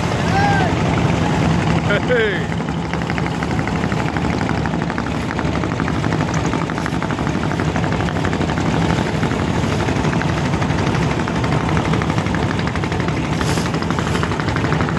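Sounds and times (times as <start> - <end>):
motorboat engine chugging: 0.0 - 14.9.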